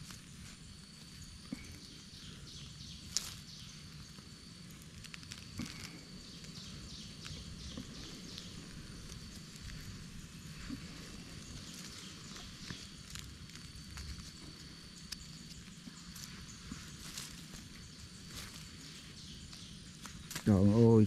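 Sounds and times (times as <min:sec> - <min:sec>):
dry twigs crackling: 0:00.0 - 0:20.6
insect chirps: 0:00.0 - 0:21.0
insect drone: 0:00.0 - 0:21.0.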